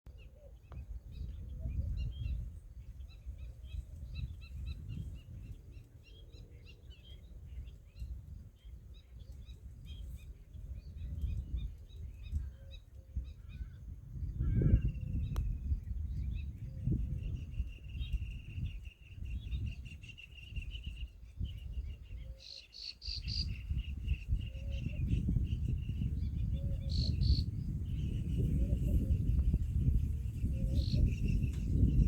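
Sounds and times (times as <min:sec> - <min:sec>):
small birds chirping: 0:00.2 - 0:32.0.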